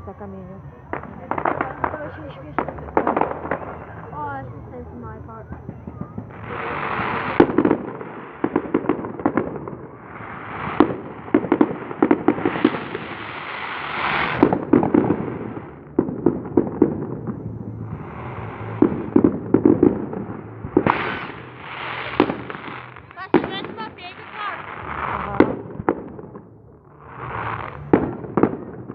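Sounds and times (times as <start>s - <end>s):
fireworks crackling pops: 0.0s - 28.9s
fireworks rushing hiss: 0.0s - 28.9s.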